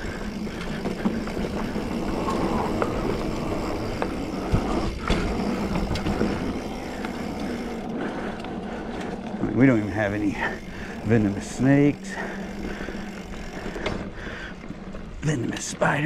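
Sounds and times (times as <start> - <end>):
bike rattling: 0.0 - 16.0
bike tyres rolling on dirt: 0.0 - 16.0.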